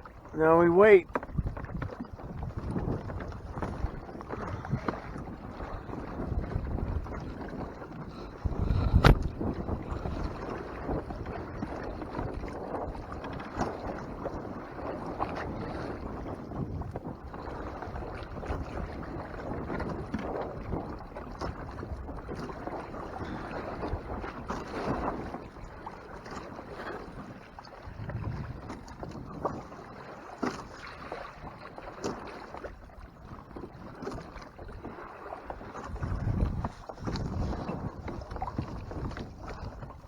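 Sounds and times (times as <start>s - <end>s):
water lapping against kayak hull: 0.0s - 40.0s
wind buffeting microphone: 0.0s - 40.0s.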